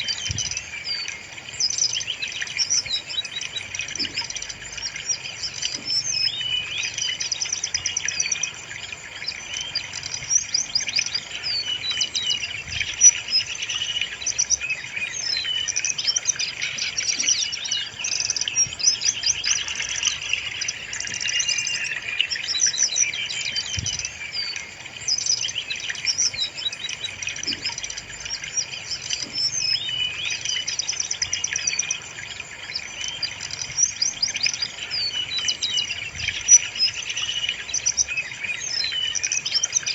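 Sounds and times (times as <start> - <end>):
bird song chirps and warbles: 0.0 - 39.9.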